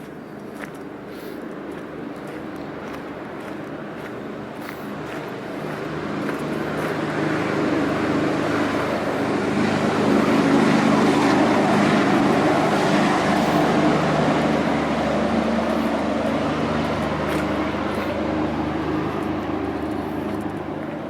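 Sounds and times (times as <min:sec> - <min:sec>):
vehicle engine and tyre noise: 0:00.0 - 0:21.0.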